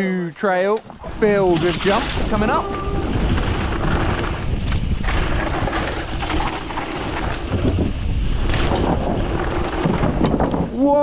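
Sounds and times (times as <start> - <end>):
tyres on dirt: 0.6 - 11.0
bike rattling over bumps: 0.7 - 11.0
wind rushing over microphone: 0.8 - 11.0.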